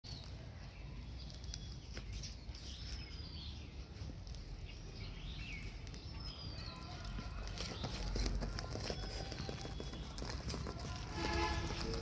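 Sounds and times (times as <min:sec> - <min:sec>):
birds chirping and calling: 0:00.1 - 0:12.0.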